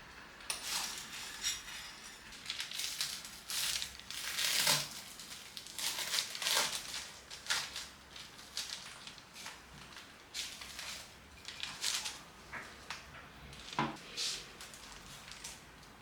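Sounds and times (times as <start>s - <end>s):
rustling and crinkling handling noise: 2.2s - 16.0s.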